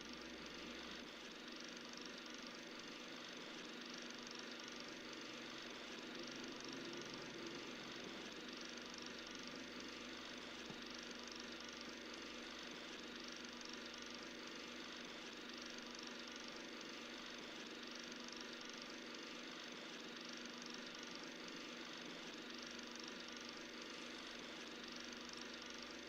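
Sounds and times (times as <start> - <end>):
film projector whirring: 0.0 - 26.0.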